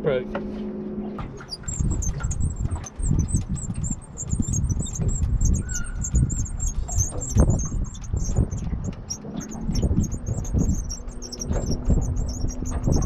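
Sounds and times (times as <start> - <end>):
short high-pitched chirps: 1.5 - 13.0.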